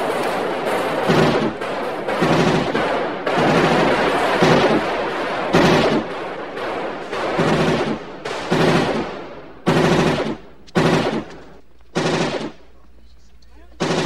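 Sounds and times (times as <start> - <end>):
machine pistol firing bursts: 0.0 - 12.7, 13.8 - 14.0.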